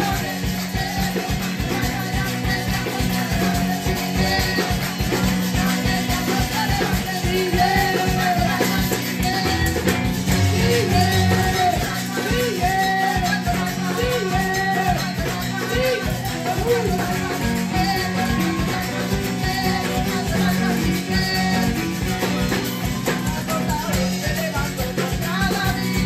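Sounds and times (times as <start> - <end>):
maracas shaking: 0.0 - 26.0
upbeat accompaniment: 0.0 - 26.0
women singing: 0.0 - 26.0.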